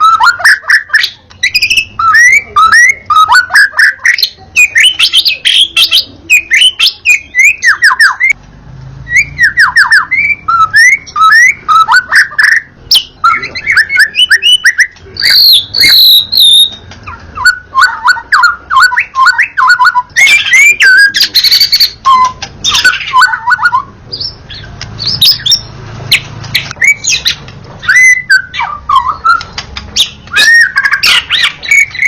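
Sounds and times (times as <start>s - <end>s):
bird singing whistles and clicks: 0.0s - 8.4s, 9.1s - 32.0s.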